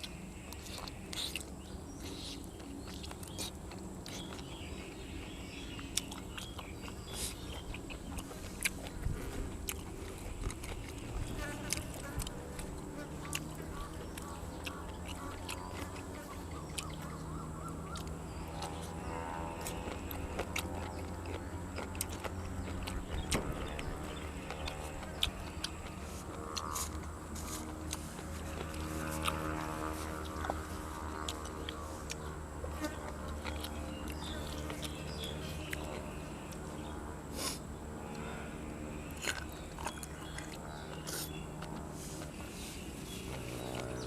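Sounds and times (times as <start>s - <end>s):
low hum: 0.0s - 44.0s
person chewing crunchy food: 0.0s - 44.0s.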